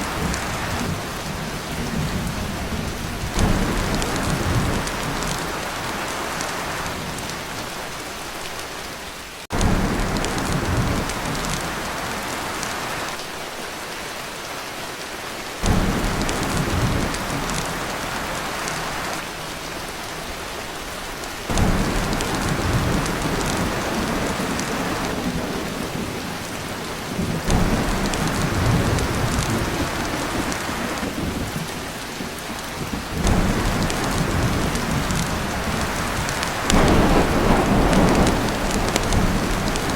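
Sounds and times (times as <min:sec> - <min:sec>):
thunder rumbling: 0:00.0 - 0:07.8, 0:09.5 - 0:13.0, 0:15.6 - 0:19.3, 0:21.5 - 0:39.9
heavy rain on a tin roof: 0:00.0 - 0:39.9.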